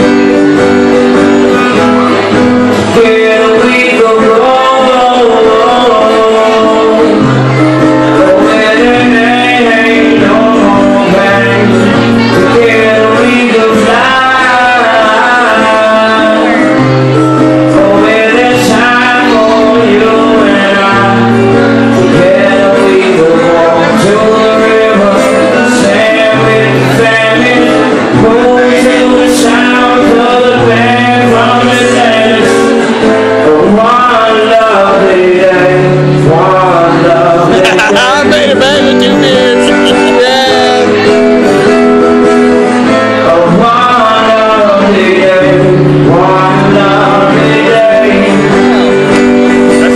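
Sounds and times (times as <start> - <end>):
acoustic guitar strumming: 0.0 - 49.9
man singing: 0.0 - 49.9.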